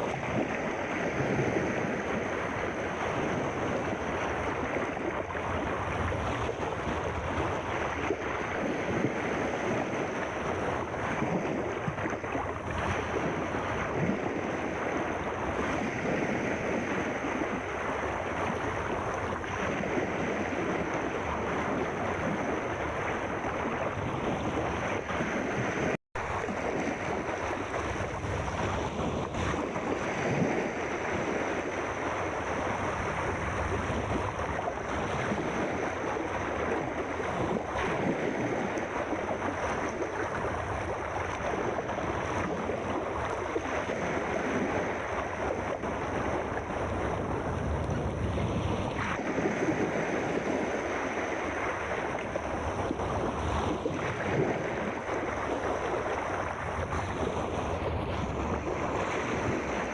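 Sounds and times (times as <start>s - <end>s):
rushing fizzing water: 0.0s - 59.9s.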